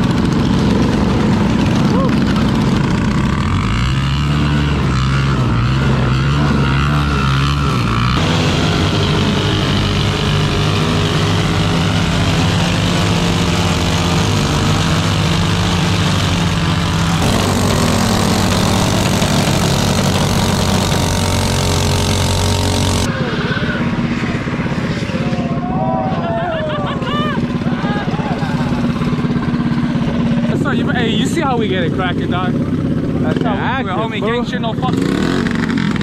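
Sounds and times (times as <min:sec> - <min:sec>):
mini bike engine at high revs: 0:00.0 - 0:25.4, 0:26.6 - 0:31.2, 0:32.1 - 0:36.0.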